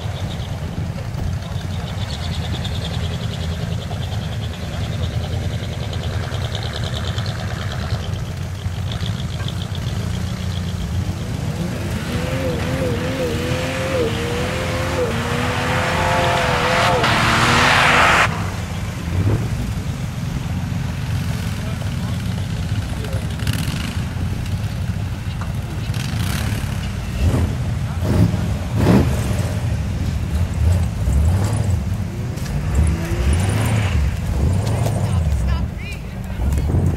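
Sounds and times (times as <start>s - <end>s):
car engine revving under load: 0.0s - 36.9s.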